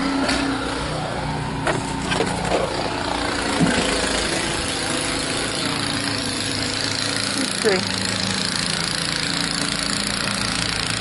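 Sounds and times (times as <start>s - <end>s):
snowblower engine running: 0.0s - 11.0s.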